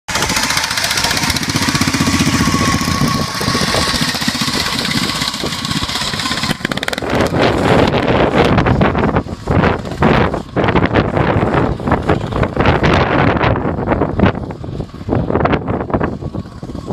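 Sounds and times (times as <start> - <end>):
lawn mower engine whining: 0.1 - 16.9
wind buffeting microphone: 0.2 - 16.9.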